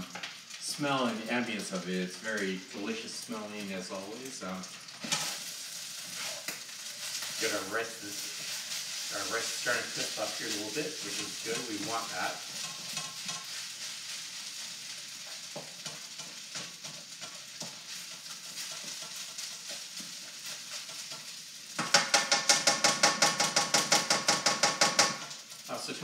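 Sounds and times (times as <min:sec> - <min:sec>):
rice sizzling in a wok: 0:00.0 - 0:26.0.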